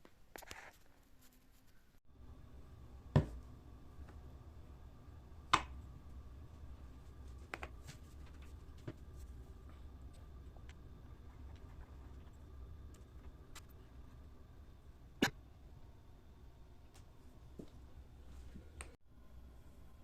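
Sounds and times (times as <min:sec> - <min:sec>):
low steady hum: 0:02.1 - 0:20.0.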